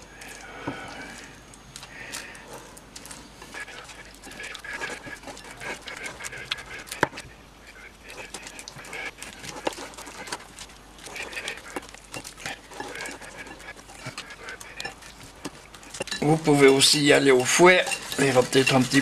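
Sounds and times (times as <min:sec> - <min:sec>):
spatula squishing and scraping batter: 0:00.0 - 0:19.0.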